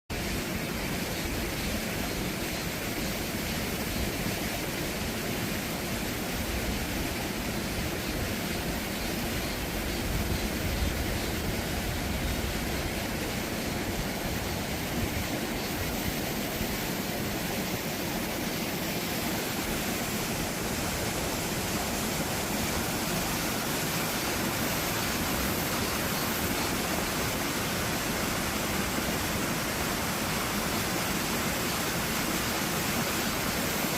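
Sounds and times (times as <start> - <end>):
stream rushing: 0.1 - 33.9.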